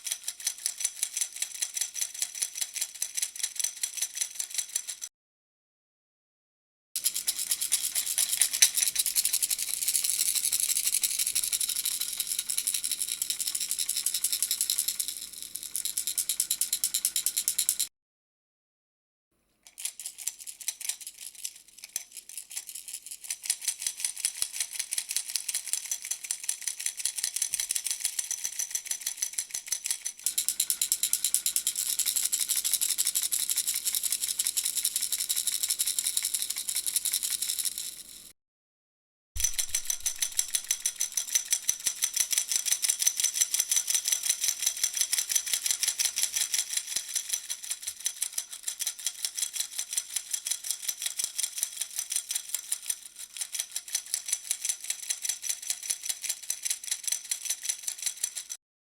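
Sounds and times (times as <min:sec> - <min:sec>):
baby rattle shaking: 0:07.0 - 0:17.8, 0:19.7 - 0:38.2, 0:39.4 - 0:58.6.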